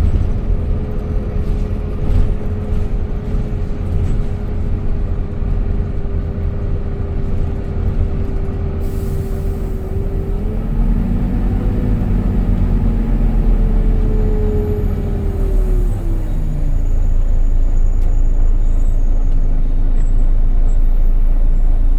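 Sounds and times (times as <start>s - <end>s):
bus engine drone: 0.0s - 21.9s
bus engine whine: 0.0s - 21.9s.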